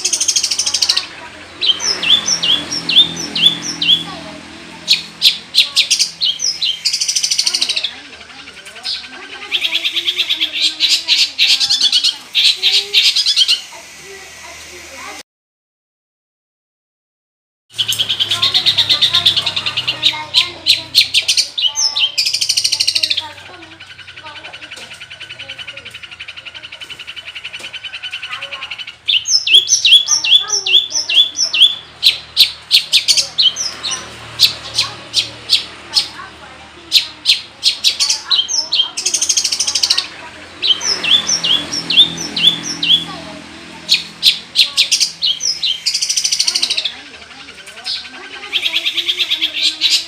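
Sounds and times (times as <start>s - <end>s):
bird chattering song: 0.0s - 15.2s, 17.7s - 50.0s.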